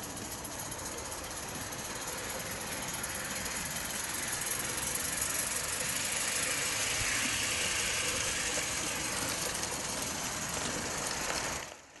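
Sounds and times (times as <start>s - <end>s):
steady hissing noise: 0.0s - 12.0s.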